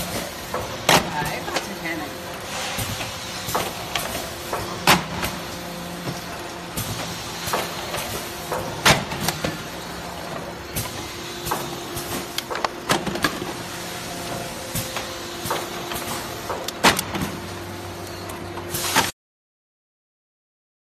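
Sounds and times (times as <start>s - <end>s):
sealing machine humming: 0.0s - 19.1s.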